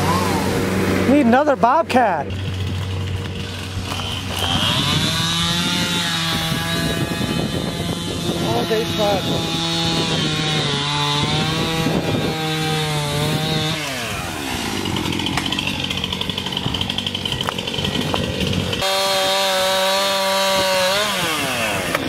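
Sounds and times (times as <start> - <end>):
chainsaw running: 0.0 - 22.0.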